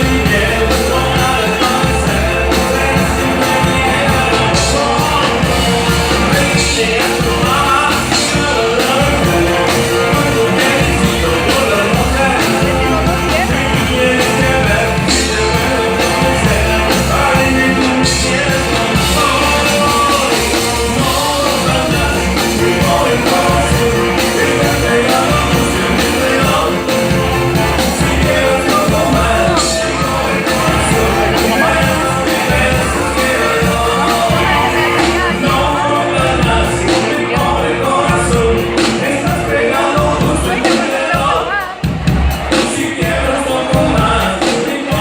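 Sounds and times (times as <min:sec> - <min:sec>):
person singing: 0:00.0 - 0:41.9
live band playing: 0:00.0 - 0:45.0.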